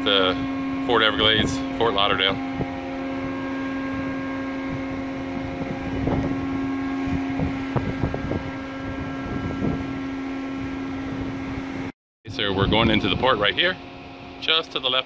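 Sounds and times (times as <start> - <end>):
ship machinery hum: 0.0 - 15.0
wind gusting over microphone: 0.0 - 15.0.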